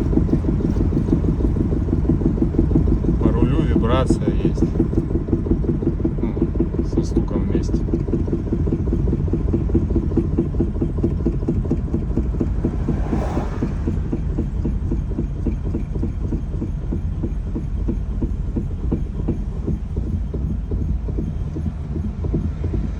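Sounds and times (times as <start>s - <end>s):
car rhythmic knocking: 0.0s - 22.9s
low road rumble: 0.0s - 22.9s.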